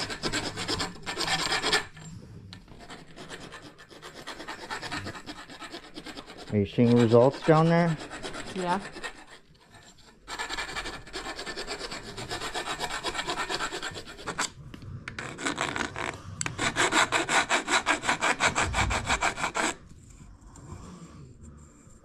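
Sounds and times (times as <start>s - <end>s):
hand file rasping: 0.0s - 19.9s.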